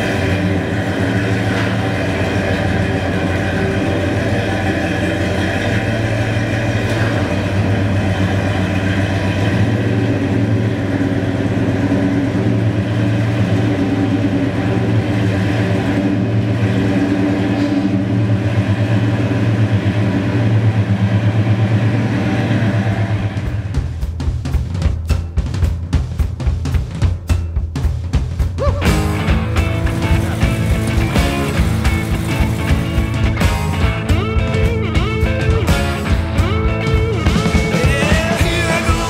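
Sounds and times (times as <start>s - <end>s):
pickup engine idling: 0.0s - 24.2s, 28.8s - 39.0s.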